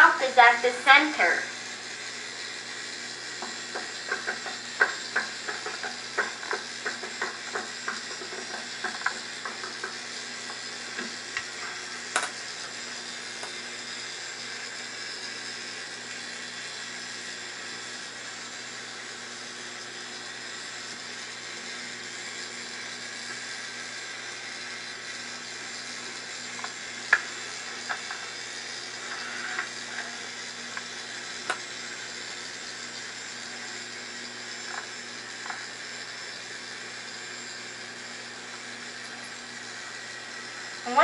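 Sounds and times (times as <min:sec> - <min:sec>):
small electric motor humming: 0:00.0 - 0:41.0.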